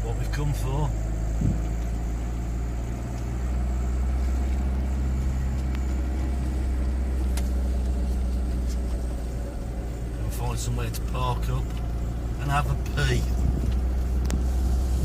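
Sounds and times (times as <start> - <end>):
minibus engine droning: 0.0 - 15.0.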